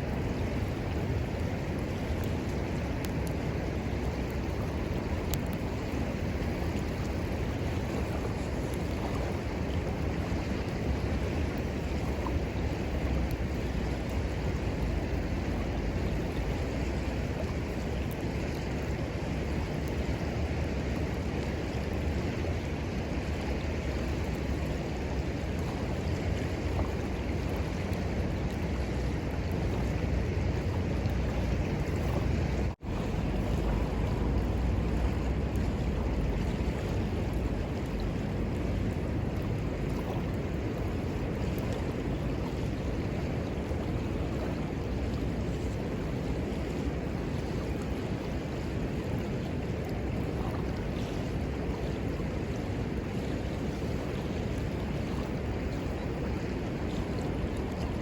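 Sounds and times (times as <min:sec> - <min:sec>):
river rushing: 0:00.0 - 0:58.0
wind rumbling on microphone: 0:00.0 - 0:58.0.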